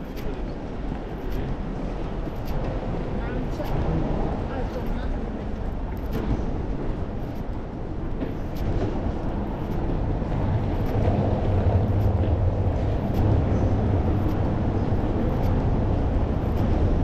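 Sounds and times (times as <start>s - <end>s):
city street rumble: 0.0s - 17.0s.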